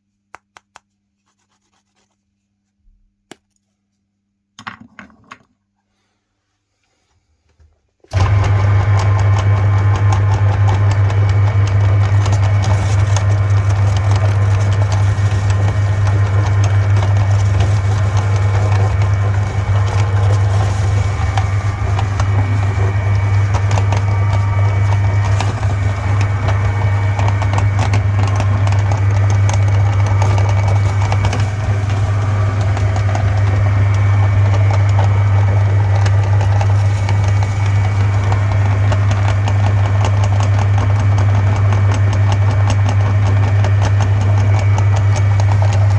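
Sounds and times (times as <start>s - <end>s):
cakes crackling in grinder: 8.1s - 45.9s
meat grinder running: 8.1s - 45.9s.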